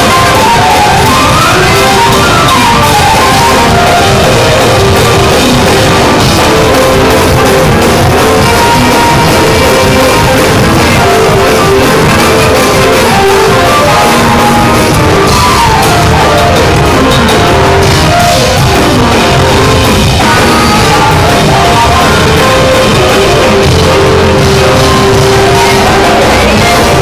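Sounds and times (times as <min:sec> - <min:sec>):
live band playing: 0:00.0 - 0:27.0
saxophone melody: 0:00.0 - 0:27.0.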